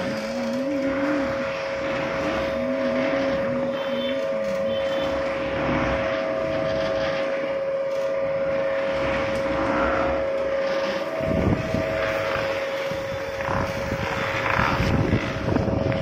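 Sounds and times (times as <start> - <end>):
oil press machine drone: 0.0 - 16.0.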